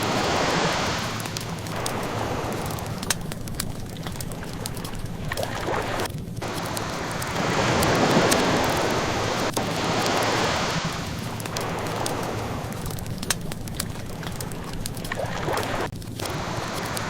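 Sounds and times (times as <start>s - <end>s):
ocean waves washing in: 0.0s - 17.0s
wood fire crackling: 0.0s - 17.0s.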